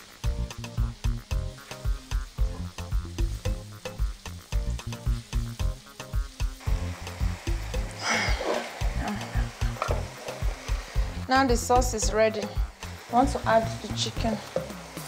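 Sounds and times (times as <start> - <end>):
background music with steady beat: 0.0 - 15.0
sauce sizzling in a frying pan: 0.0 - 15.0.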